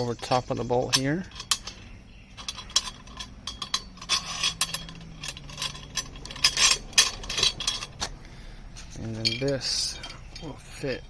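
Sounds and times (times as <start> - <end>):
metal parts clinking and scraping: 0.0 - 11.0.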